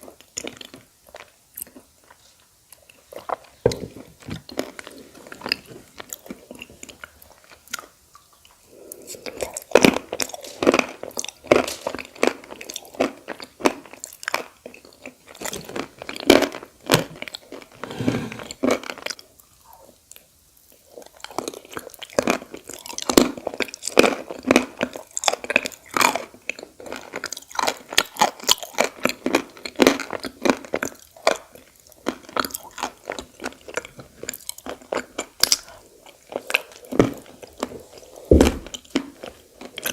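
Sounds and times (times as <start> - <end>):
crunching and chewing clay: 0.0 - 39.9.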